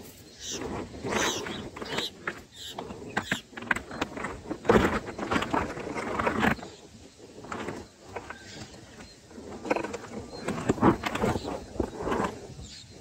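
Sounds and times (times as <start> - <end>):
rustling and scratching in nest: 0.0 - 12.8.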